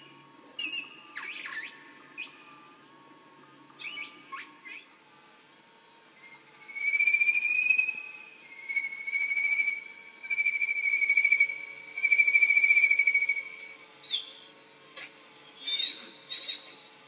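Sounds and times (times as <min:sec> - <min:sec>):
synthesised whistled birdsong: 0:00.0 - 0:02.8, 0:03.7 - 0:05.4, 0:06.0 - 0:17.0.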